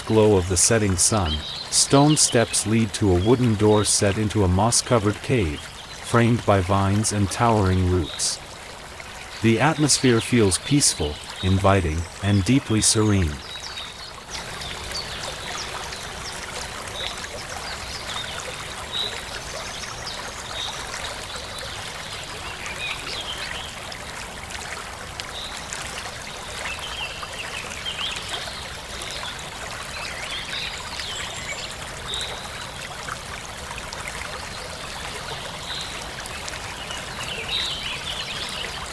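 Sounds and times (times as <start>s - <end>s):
running water flowing: 0.0s - 38.9s.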